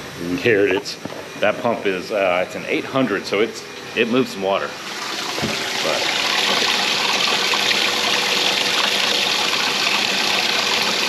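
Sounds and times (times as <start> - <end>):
water pump running: 0.0 - 11.0
water stream splashing: 1.4 - 11.0.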